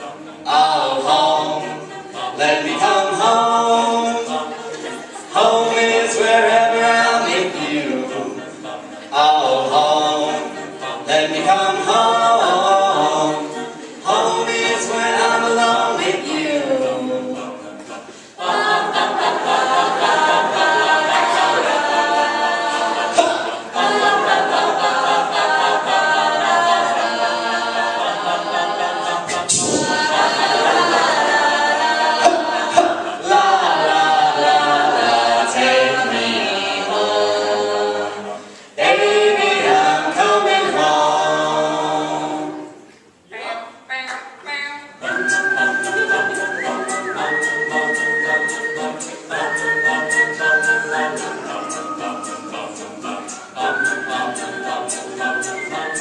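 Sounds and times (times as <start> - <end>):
vocal group singing harmonies: 0.0 - 43.3, 44.9 - 56.0.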